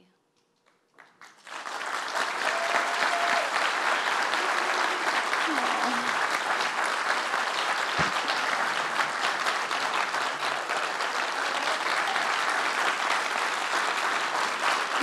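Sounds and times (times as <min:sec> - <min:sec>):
audience applauding: 0:00.8 - 0:15.0.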